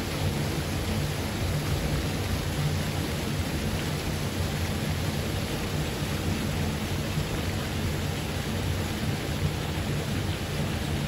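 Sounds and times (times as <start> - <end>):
fountain spray splashing on water: 0.0 - 11.0.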